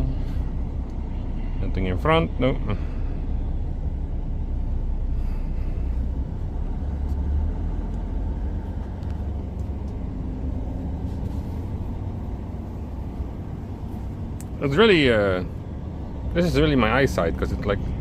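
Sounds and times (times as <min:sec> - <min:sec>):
truck diesel engine rumble: 0:00.0 - 0:18.0.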